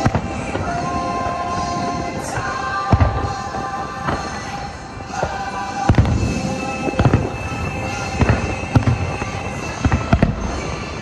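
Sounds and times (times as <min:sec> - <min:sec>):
fireworks bursting: 0:00.0 - 0:11.0
music: 0:00.0 - 0:11.0.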